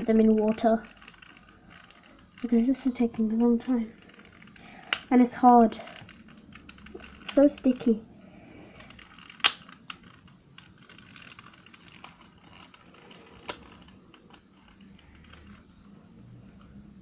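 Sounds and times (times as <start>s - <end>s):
light plastic clicks and scratching: 0.0s - 8.0s, 8.6s - 17.0s
sharp plastic clicks: 0.0s - 8.0s, 8.6s - 16.8s.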